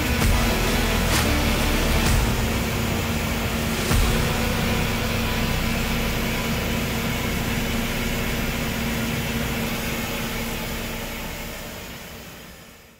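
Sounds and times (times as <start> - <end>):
milling machine humming: 0.0 - 12.9.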